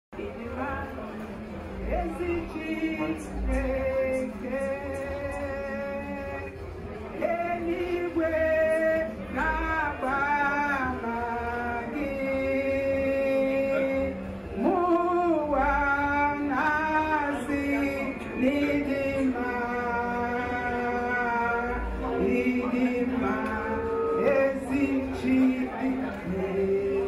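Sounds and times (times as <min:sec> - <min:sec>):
woman and men singing: 0:01.8 - 0:27.0.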